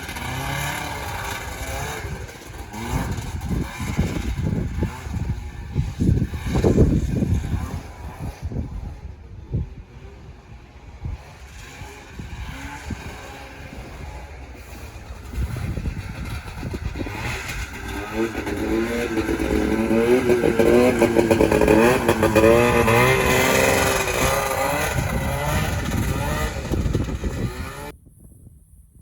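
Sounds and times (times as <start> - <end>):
two-stroke snowmobile engine revving: 0.0 - 27.9.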